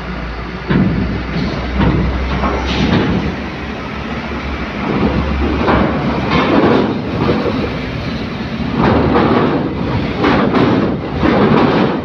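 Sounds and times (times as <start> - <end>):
truck engines rumbling: 0.0 - 12.0
wheels clanking over steel ramp: 0.6 - 12.0.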